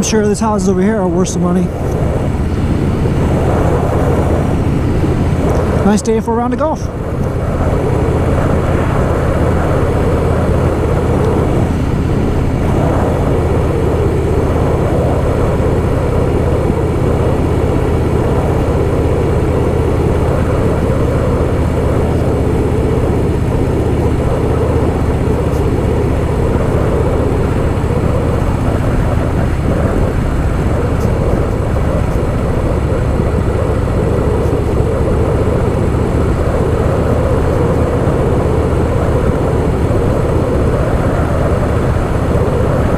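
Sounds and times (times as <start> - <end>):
motorcycle engine running steadily: 0.0 - 42.9.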